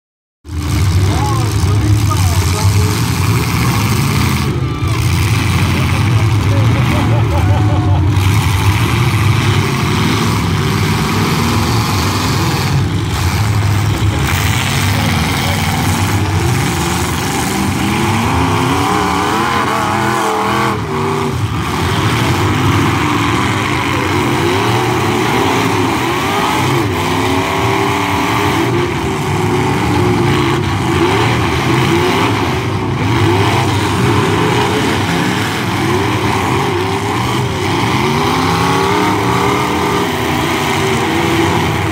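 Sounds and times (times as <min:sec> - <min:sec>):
truck engines revving: 0:00.4 - 0:41.9.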